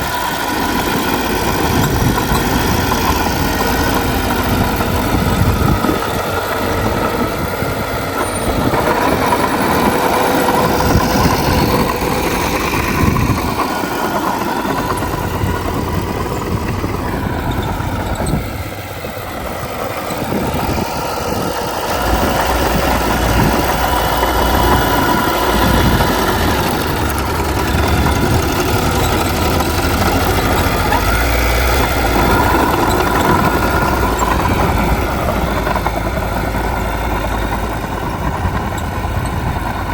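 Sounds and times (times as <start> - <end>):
earthmoving machinery diesel engines: 0.0 - 39.9.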